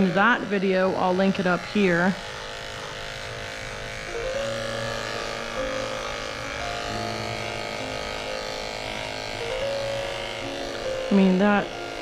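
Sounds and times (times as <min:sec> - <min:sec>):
electric clippers shaving fur: 0:00.0 - 0:12.0.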